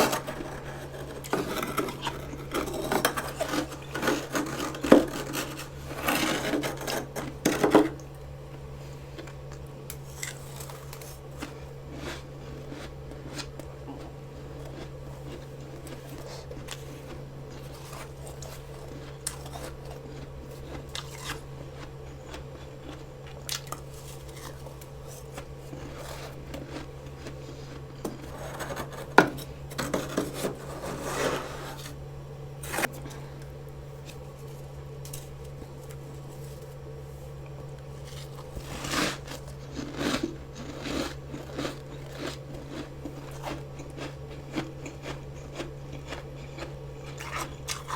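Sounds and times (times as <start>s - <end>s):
frost being scraped and crunched: 0.0s - 8.0s, 9.9s - 13.6s, 14.3s - 21.8s, 23.6s - 33.2s, 33.9s - 43.9s
steady low hum: 0.0s - 47.9s.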